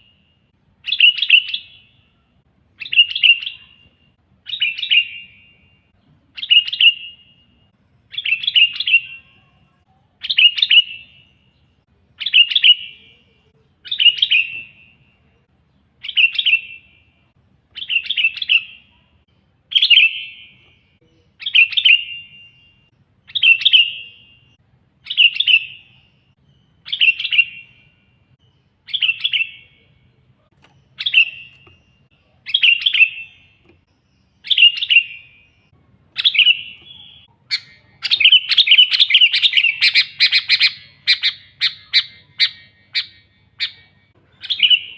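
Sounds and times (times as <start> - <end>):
bulbul chattering song: 0.0 - 44.9.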